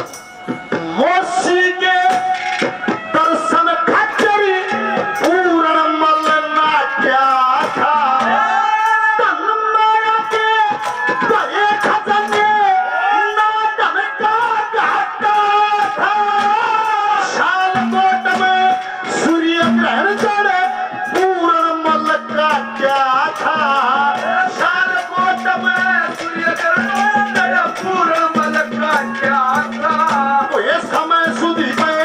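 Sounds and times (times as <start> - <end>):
jingling percussion strokes: 0.0 - 32.0
man singing: 0.0 - 32.0.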